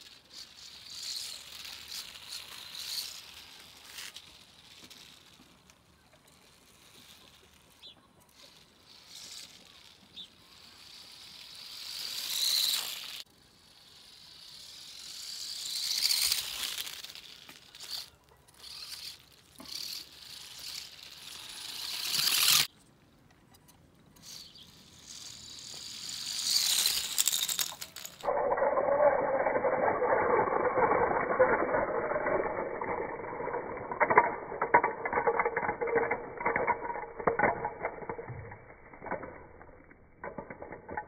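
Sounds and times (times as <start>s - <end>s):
small electric motor whining: 0.0s - 22.7s, 24.2s - 41.0s
wheels rattling over asphalt: 0.0s - 22.8s, 23.5s - 41.0s.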